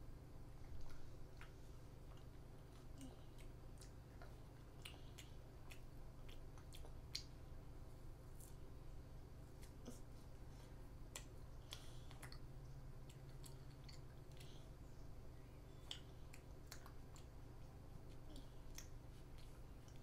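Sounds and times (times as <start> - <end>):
steady low hum: 0.0 - 20.0
child chewing with mouth clicks: 0.5 - 20.0.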